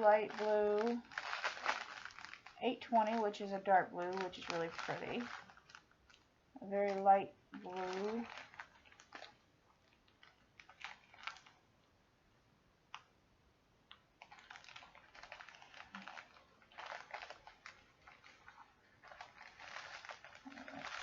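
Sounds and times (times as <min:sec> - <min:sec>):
plastic bags crinkling: 0:00.0 - 0:11.6, 0:14.2 - 0:21.0.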